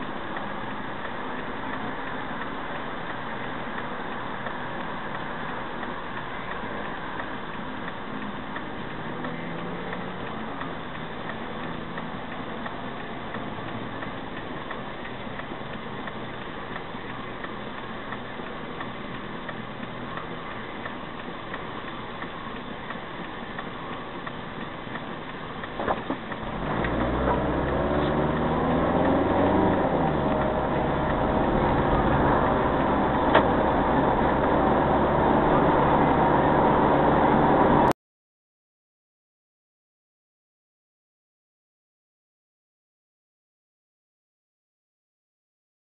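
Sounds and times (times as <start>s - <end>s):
car engine idling and accelerating: 0.0s - 38.0s.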